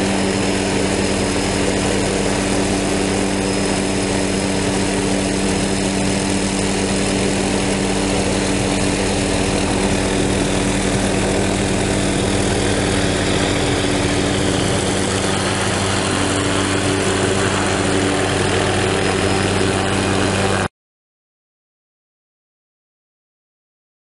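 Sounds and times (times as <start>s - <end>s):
helicopter hovering: 0.0s - 20.7s.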